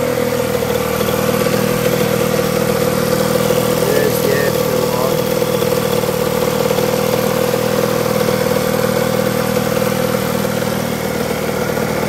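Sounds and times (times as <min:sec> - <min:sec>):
two-stroke engine idling: 0:00.0 - 0:12.0.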